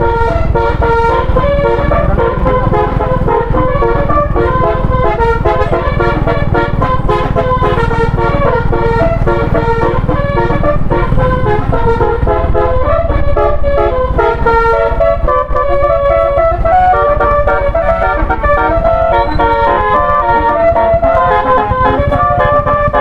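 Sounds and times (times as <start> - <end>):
low rumble: 0.0 - 23.0
multi-tone air horn melody: 0.0 - 23.0.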